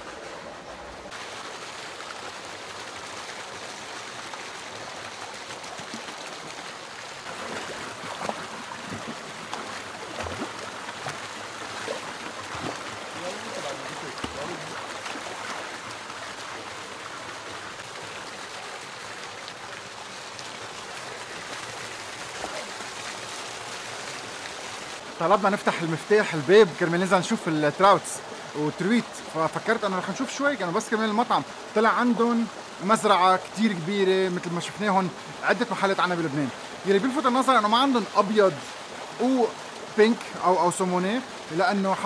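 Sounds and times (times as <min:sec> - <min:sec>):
running water rushing: 0:00.0 - 0:42.0.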